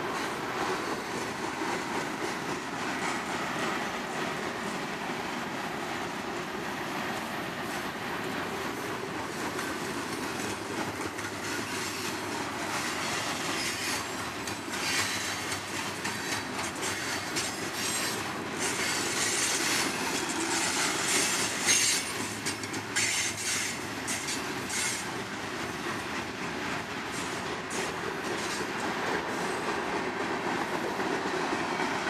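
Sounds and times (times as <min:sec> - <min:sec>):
freight train rolling on rails: 0:00.0 - 0:32.0.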